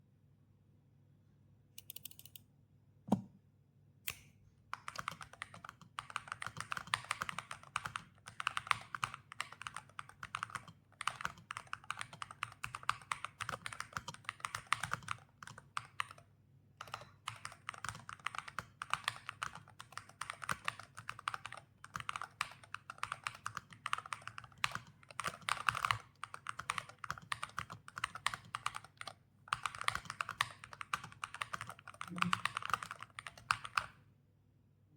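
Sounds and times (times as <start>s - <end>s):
thocky keyboard typing: 1.8s - 2.4s, 4.8s - 34.0s.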